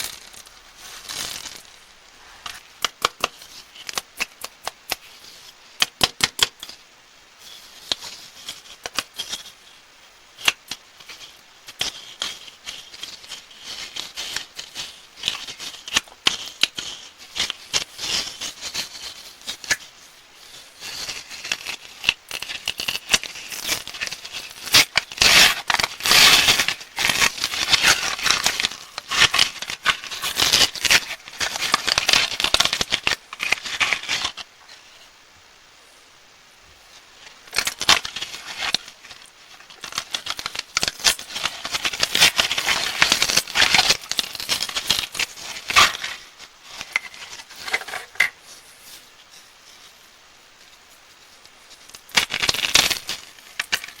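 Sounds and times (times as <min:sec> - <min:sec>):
candy wrappers crinkling: 0:00.0 - 0:05.4, 0:10.4 - 0:34.4, 0:37.2 - 0:48.6, 0:51.3 - 0:54.0.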